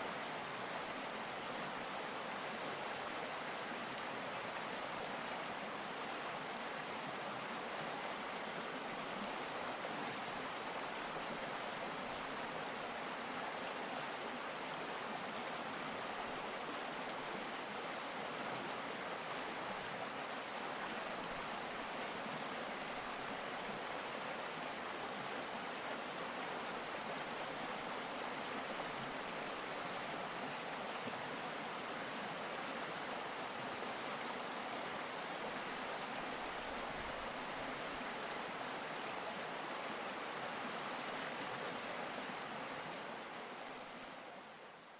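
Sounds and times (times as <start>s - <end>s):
creek running over rocks: 0.0s - 44.9s.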